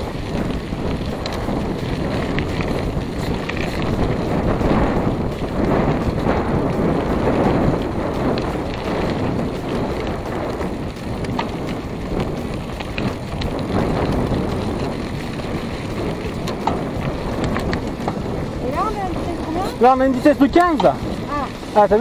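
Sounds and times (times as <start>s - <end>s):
bike rattling clicks: 0.0s - 22.0s
bike rolling on dirt track: 0.0s - 22.0s
wind buffeting microphone: 0.0s - 22.0s.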